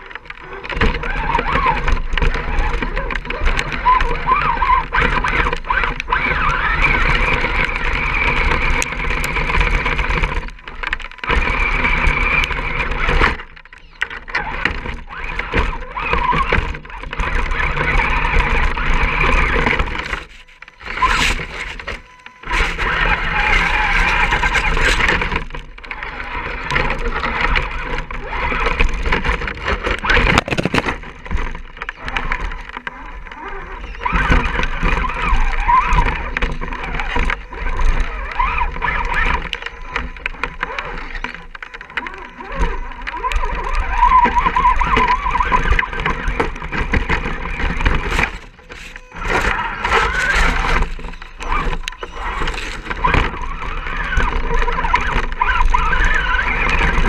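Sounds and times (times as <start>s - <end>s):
toy car electric motor whining: 0.0s - 57.0s.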